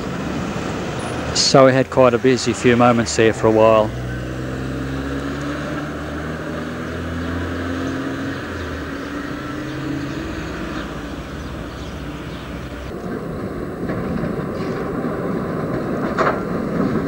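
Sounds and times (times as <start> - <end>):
car pulling away: 0.0 - 17.0
traffic noise: 0.0 - 17.0.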